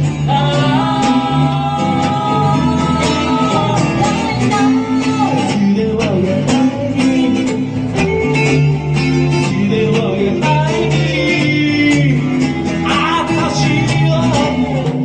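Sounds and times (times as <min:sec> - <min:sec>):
guitars: 0:00.0 - 0:15.0.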